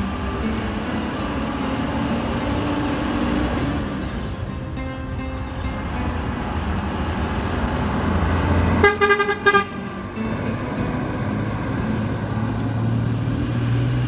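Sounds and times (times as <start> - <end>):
bus horn toots: 0.0 - 13.4
engine rumble: 0.0 - 14.0.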